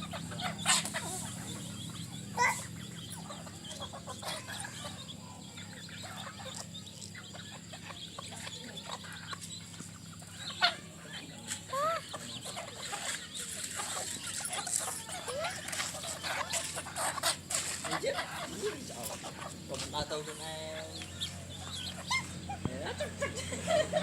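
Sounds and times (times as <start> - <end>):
chickens clucking: 0.0 - 24.0
chickens pecking: 0.0 - 24.0.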